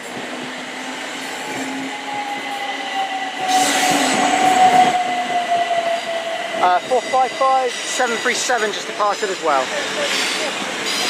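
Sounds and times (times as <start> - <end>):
train whine: 0.0 - 11.0
wheel and rail noise: 0.0 - 11.0.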